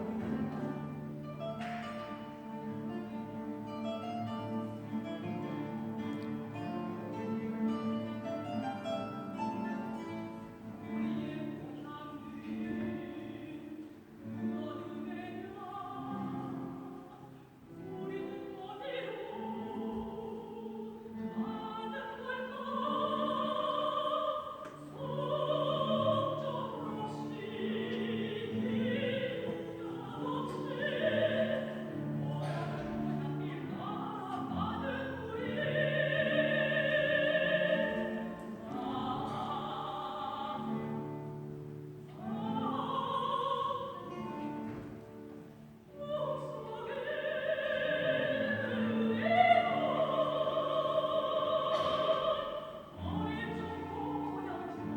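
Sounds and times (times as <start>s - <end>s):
guitar orchestra playing: 0.0s - 18.6s, 19.3s - 54.9s.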